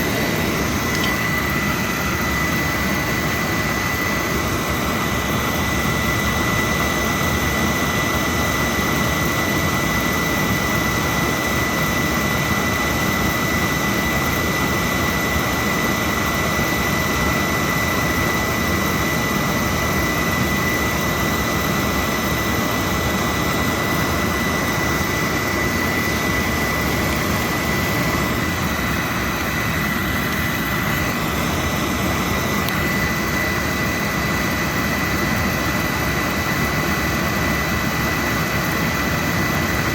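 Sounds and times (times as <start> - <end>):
boiler burner rushing: 0.0 - 39.9
thin high whine: 0.0 - 39.9.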